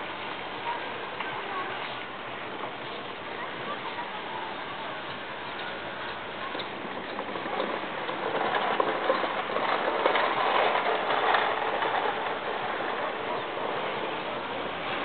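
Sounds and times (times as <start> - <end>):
continuous noisy wash: 0.0 - 15.0.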